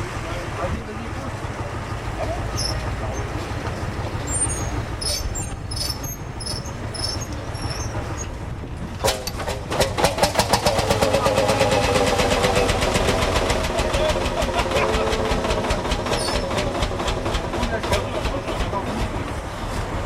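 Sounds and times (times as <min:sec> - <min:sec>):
tractor engine starting and running: 0:00.0 - 0:20.0.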